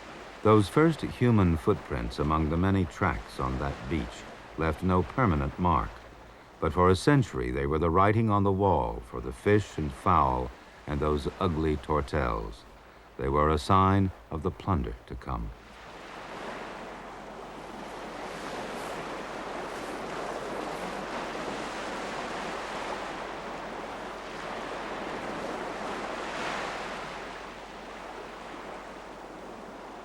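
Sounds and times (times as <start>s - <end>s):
sea surf washing onto beach: 0.0s - 30.0s.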